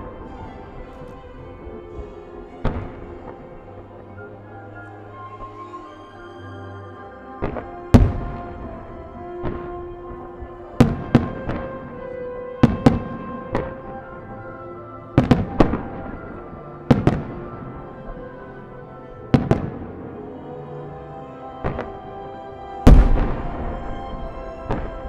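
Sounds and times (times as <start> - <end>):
fireworks bursting with sharp bangs: 0.0 - 5.7, 7.4 - 20.2, 21.6 - 22.2, 22.8 - 25.0
show music with long notes: 0.0 - 25.0.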